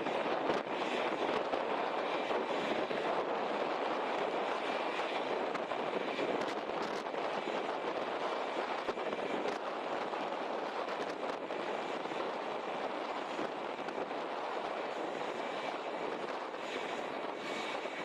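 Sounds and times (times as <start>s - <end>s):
jet engines and airflow rushing: 0.0s - 18.0s.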